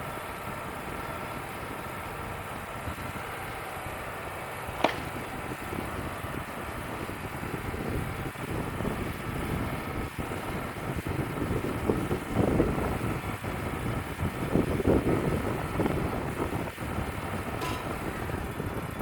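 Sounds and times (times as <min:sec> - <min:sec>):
band sawmill running: 0:00.0 - 0:19.0
wind buffeting microphone: 0:00.0 - 0:19.0.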